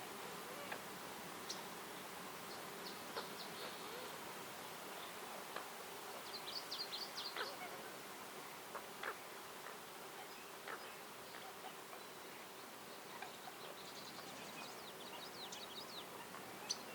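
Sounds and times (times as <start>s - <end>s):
faint steady hiss: 0.0s - 16.9s.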